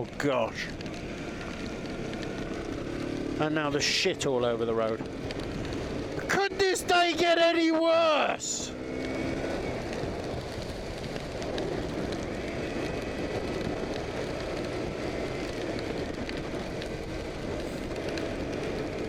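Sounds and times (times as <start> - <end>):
motorcycle engine running: 0.0 - 19.0
wind and tyre spray rushing: 0.0 - 19.0.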